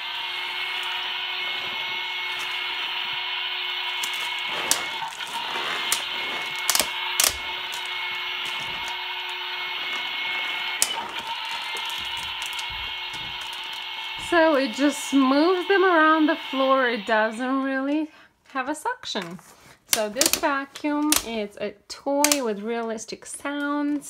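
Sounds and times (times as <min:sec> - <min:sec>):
toy vacuum whirring: 0:00.0 - 0:18.1, 0:19.1 - 0:21.5, 0:22.1 - 0:24.0.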